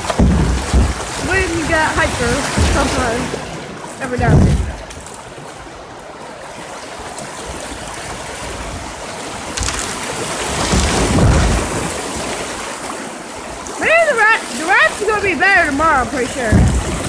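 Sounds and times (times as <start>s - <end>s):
wind buffeting microphone: 0.0s - 6.2s, 7.3s - 12.8s, 13.5s - 17.0s
creek water rushing: 0.0s - 17.0s.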